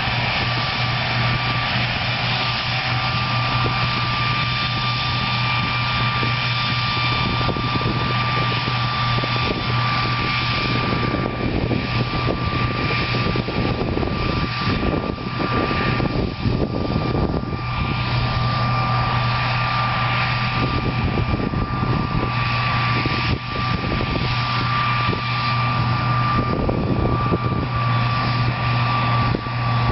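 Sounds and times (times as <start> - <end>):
cotton picker engine running: 0.0 - 29.9.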